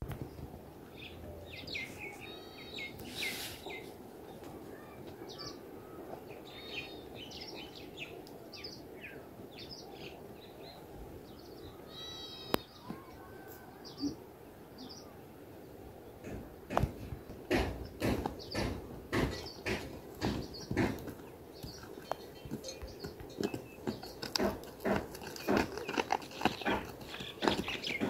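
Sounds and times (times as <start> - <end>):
small birds chirping: 0.0 - 15.2, 16.0 - 28.0
steady background hiss: 0.1 - 23.5.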